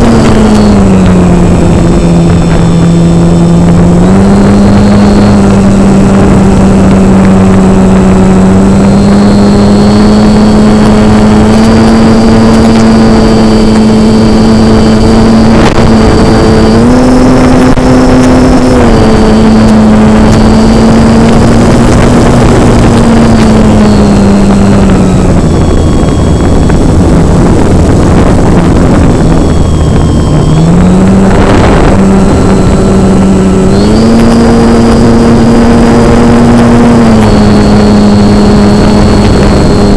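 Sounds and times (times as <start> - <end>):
model airplane motor droning: 0.0 - 39.9
rushing noise: 0.0 - 39.9.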